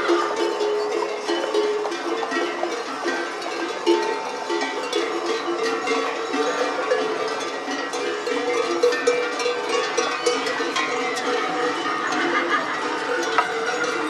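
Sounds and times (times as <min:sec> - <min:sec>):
horse bells clanking: 0:00.0 - 0:14.0.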